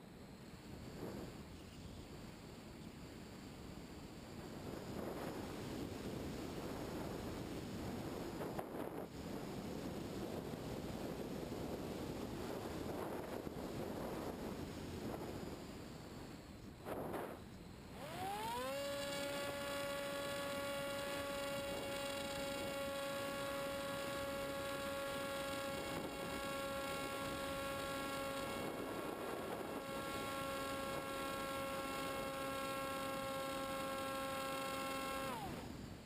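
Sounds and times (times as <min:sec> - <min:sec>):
electric motor and propeller whine: 0:00.3 - 0:36.0.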